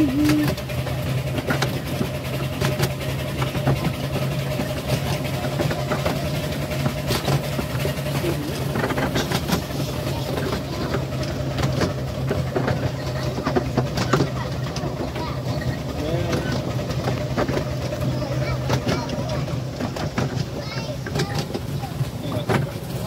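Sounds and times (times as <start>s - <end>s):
train engine drone: 0.0s - 23.0s
train wheels clicking and knocking: 0.0s - 23.0s.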